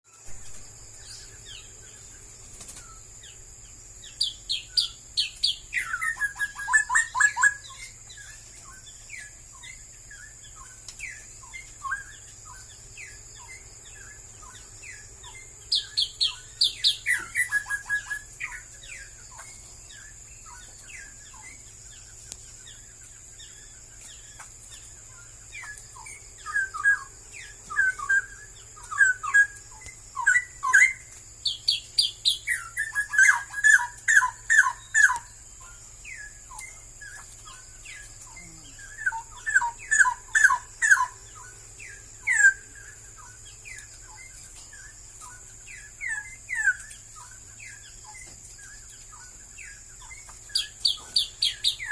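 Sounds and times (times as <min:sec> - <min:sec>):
soft bird chirps: 0:00.1 - 0:51.9
bulbul singing: 0:00.2 - 0:51.9.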